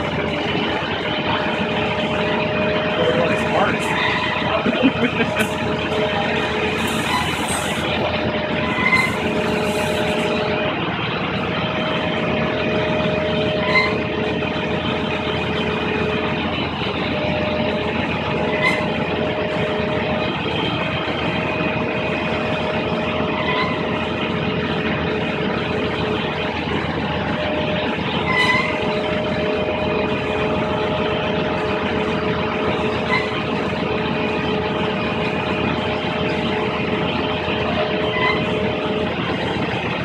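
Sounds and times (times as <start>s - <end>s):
heavy vehicle engine running: 0.0s - 40.0s
steady whine: 0.0s - 40.0s.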